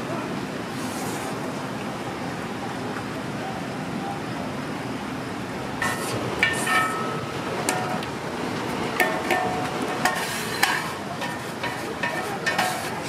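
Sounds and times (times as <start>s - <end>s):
street noise hum: 0.0s - 13.0s.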